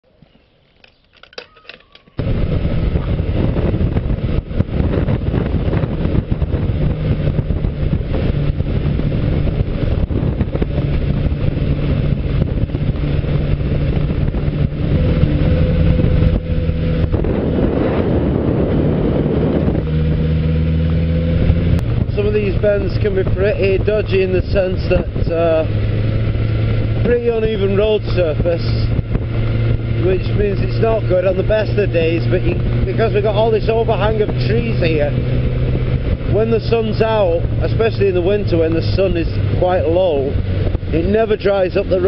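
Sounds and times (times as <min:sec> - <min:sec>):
road and wind noise: 0:00.0 - 0:42.0
motorcycle engine running: 0:02.2 - 0:42.0.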